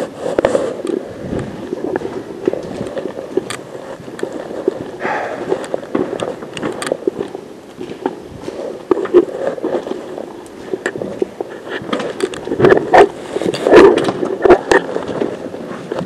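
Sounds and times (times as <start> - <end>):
footsteps walking: 0.0 - 16.0.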